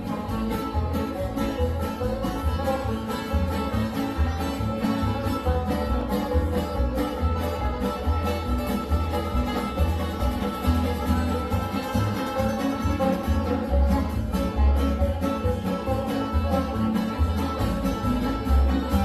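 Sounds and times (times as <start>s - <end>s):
fiddle: 0.0s - 19.0s
plucked upright bass: 0.0s - 19.0s
strummed acoustic guitars: 0.0s - 19.0s.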